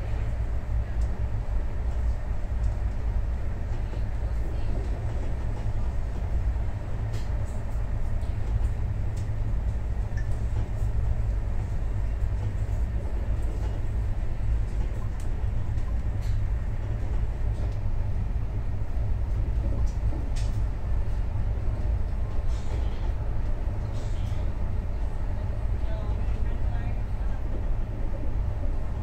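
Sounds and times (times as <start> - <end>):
train running rumble: 0.0 - 29.0.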